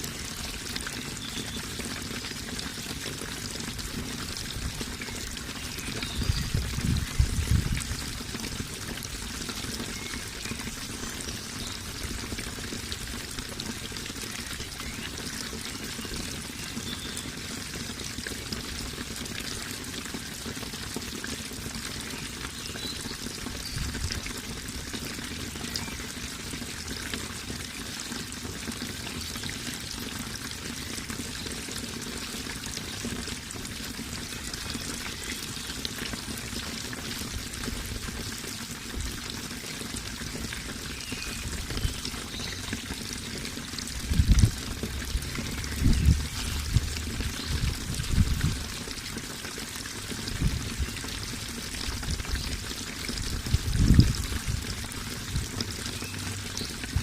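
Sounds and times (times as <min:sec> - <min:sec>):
flowing water trickle: 0:00.0 - 0:57.0.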